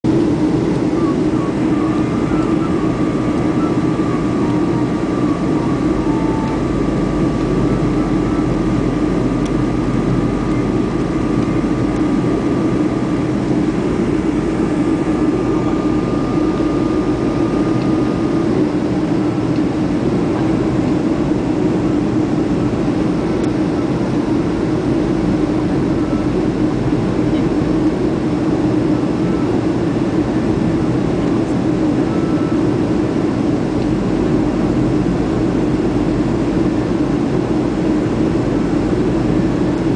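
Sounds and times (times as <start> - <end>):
jet engine hum: 0.0 - 39.9
faint high whine: 0.1 - 39.9.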